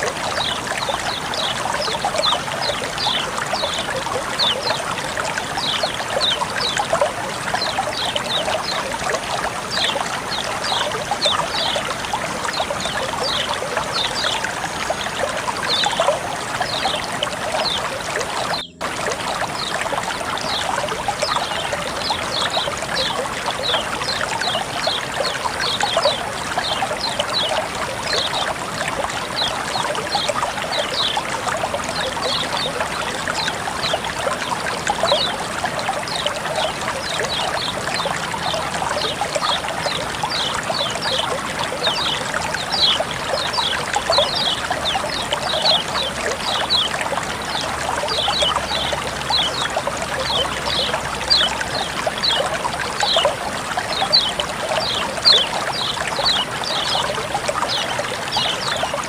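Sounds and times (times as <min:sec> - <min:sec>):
water flowing and trickling: 0:00.0 - 0:59.0.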